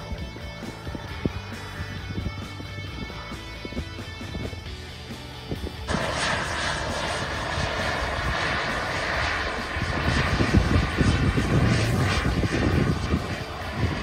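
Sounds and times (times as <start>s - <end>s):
jet turbine whine: 0.0s - 14.0s
low rumble: 0.0s - 14.0s.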